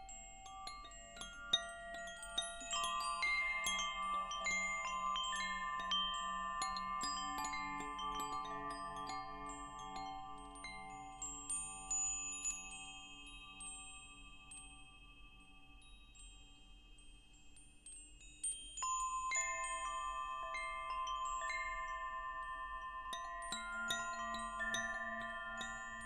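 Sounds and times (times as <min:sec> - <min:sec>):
wind chimes tinkling: 0:00.0 - 0:26.0.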